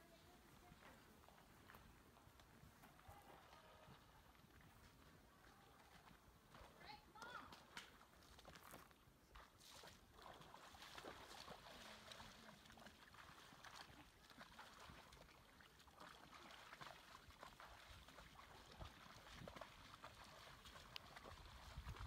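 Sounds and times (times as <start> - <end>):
legs wading through shallow water: 0.0 - 22.0.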